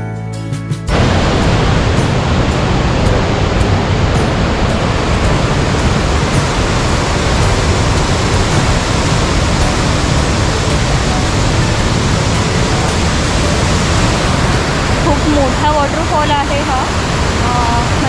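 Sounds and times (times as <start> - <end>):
waterfall rushing: 0.9 - 18.0.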